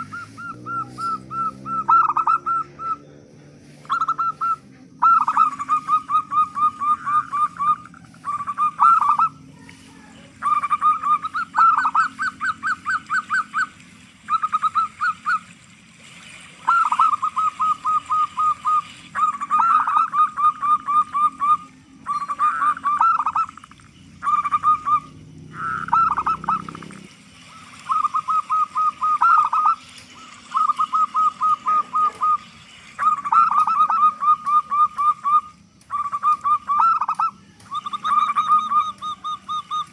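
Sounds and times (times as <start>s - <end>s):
dove calling rapid clipped notes: 0.0s - 39.9s.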